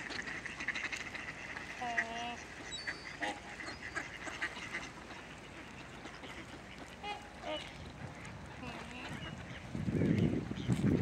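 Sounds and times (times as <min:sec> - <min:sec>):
ducks quacking: 0:00.0 - 0:10.8.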